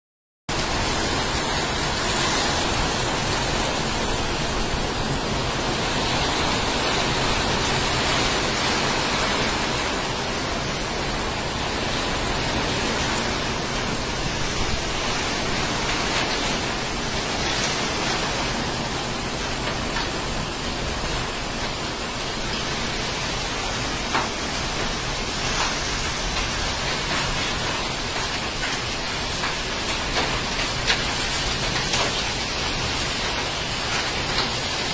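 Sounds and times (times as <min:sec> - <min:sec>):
heavy rain on rooftops: 0:00.5 - 0:34.9.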